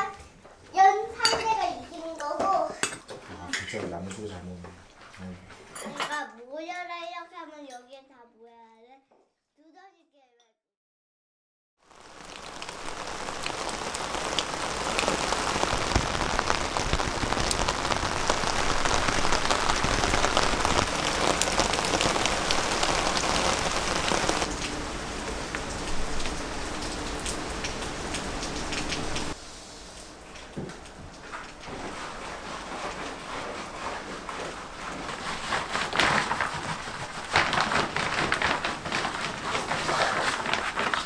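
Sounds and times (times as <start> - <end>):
rain falling steadily: 0.0 - 5.6, 11.8 - 41.0.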